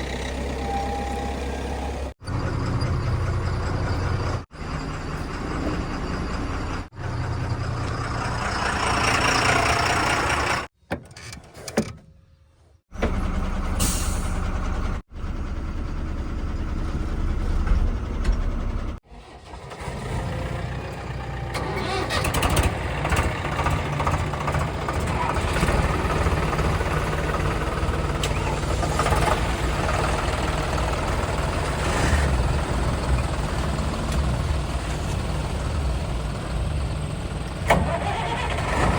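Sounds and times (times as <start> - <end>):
heavy diesel engines running: 0.0 - 10.7, 13.0 - 38.9.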